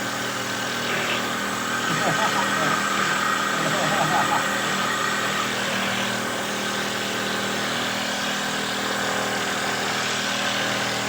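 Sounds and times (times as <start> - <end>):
machine motor hum and whir: 0.0 - 11.0.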